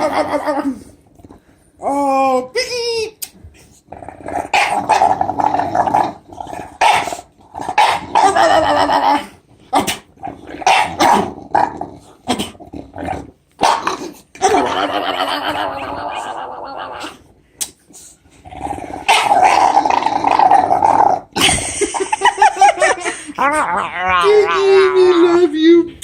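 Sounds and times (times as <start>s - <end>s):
dog growling and grumbling: 0.0s - 2.3s, 3.9s - 17.3s, 18.3s - 26.0s.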